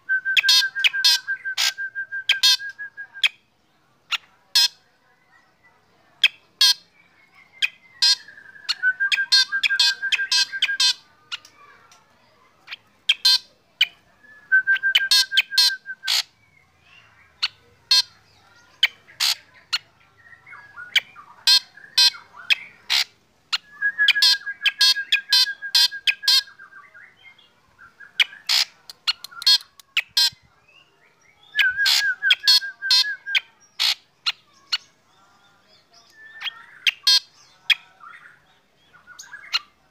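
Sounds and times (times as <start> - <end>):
bird singing trills: 0.1 - 3.4, 6.2 - 11.9, 12.6 - 39.9.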